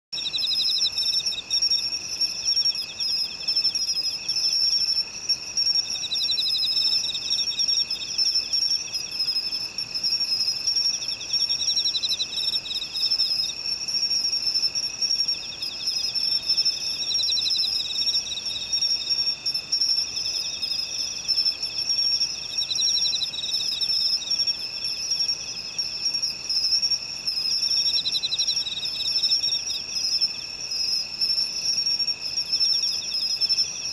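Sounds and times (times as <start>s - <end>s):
insects trilling steadily: 0.2s - 33.9s
pulsed insect trill: 0.2s - 33.9s.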